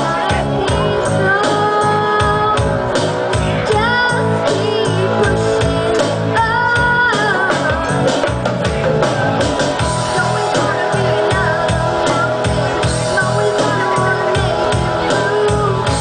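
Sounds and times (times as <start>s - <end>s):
woman singing into microphone: 0.0s - 8.4s, 9.7s - 16.0s
drums keeping a steady beat: 0.0s - 16.0s
electric guitar: 0.0s - 16.0s
keyboard: 0.0s - 16.0s.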